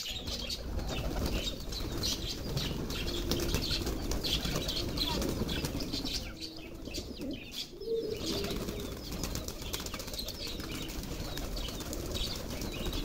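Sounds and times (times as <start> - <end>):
pigeon wings flapping: 0.6 - 6.3, 8.2 - 13.0.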